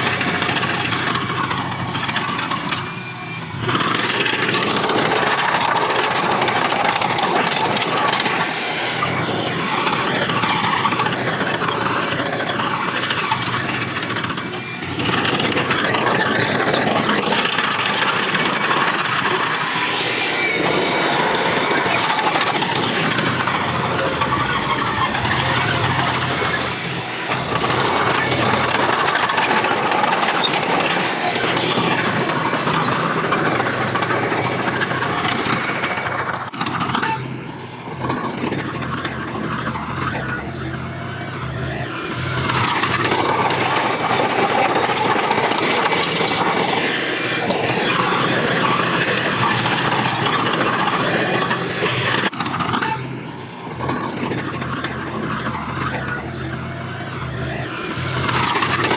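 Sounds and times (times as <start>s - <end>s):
bulldozer engine running: 0.0s - 58.9s
crawler tracks squealing: 0.0s - 58.9s.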